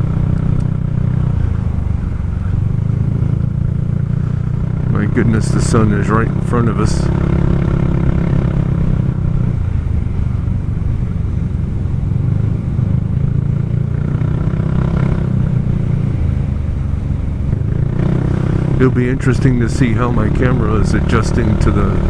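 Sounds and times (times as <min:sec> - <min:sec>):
scooter engine droning: 0:00.0 - 0:22.0
wind and road noise: 0:00.0 - 0:22.0.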